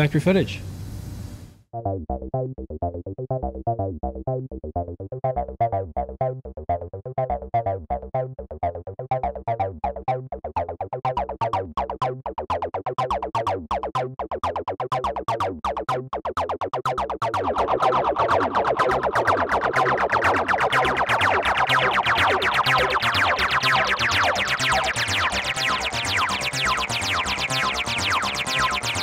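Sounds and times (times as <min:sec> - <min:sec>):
electronic music with synth beat: 0:01.8 - 0:29.0.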